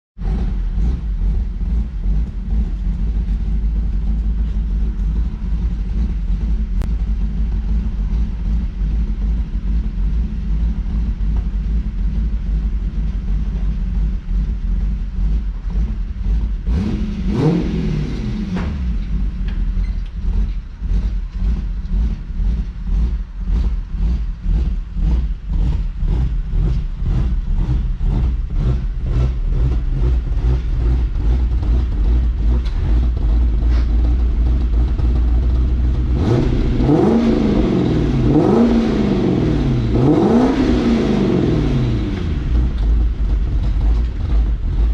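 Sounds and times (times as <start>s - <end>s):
car engine idling roughly: 0.2s - 16.7s, 19.0s - 36.8s, 42.0s - 44.9s
engine revving: 0.2s - 44.9s.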